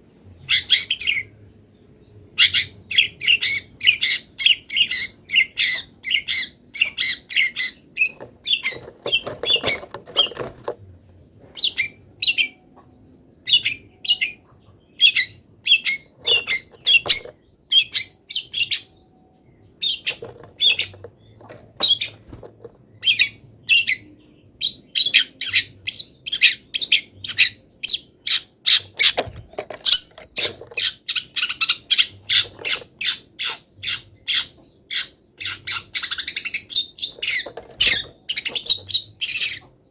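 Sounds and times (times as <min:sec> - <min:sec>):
shrike singing chirps and squawks: 0:00.4 - 0:01.3, 0:02.3 - 0:10.6, 0:11.6 - 0:39.8.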